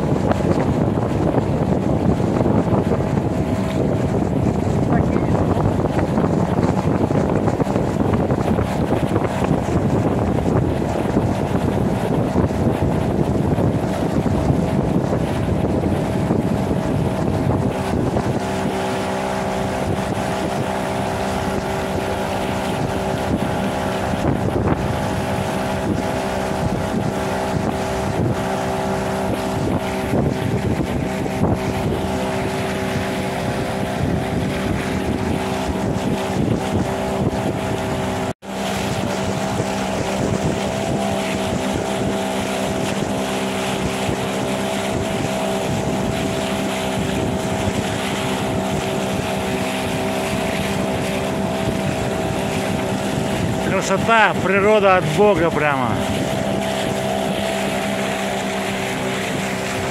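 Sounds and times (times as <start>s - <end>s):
boat motor running: 0.0s - 59.9s
wind buffeting microphone: 0.0s - 59.9s.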